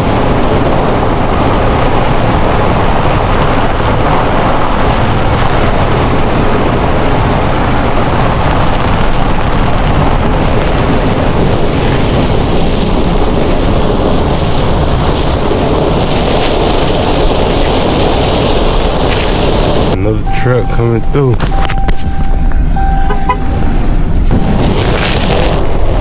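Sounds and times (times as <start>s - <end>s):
pickup engine rumble: 0.0s - 26.0s
tyre noise on snow: 0.0s - 26.0s.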